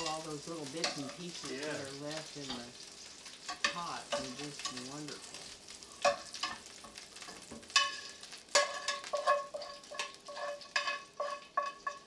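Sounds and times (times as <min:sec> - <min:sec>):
metal utensils scraping a pan: 0:00.0 - 0:12.0.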